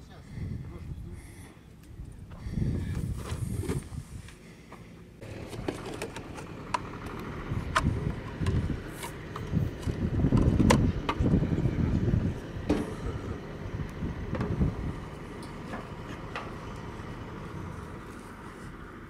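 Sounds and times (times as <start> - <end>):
vehicle rumbling over rough ground: 0.0 - 19.0.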